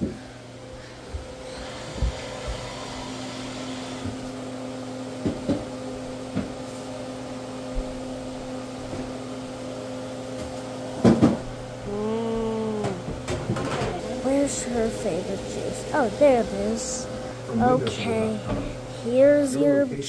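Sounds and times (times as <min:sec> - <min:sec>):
appliance motor humming: 0:00.0 - 0:20.0.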